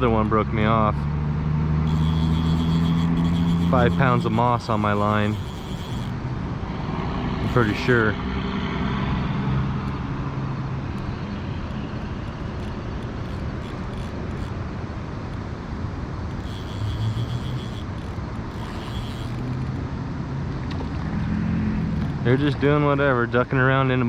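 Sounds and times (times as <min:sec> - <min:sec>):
low hum: 0:01.0 - 0:22.3.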